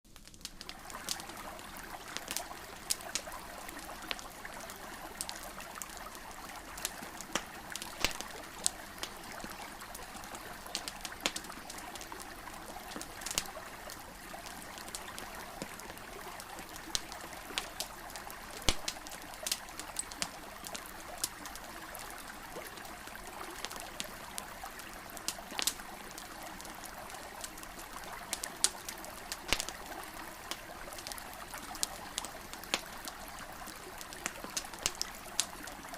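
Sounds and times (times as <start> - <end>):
campfire crackling and popping: 0.1 - 35.9.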